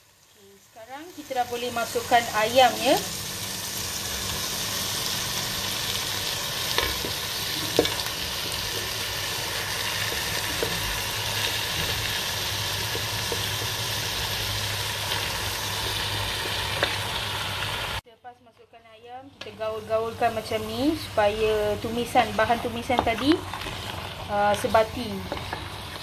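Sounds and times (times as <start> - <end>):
paste sizzling in oil: 0.0 - 18.0, 19.8 - 26.0.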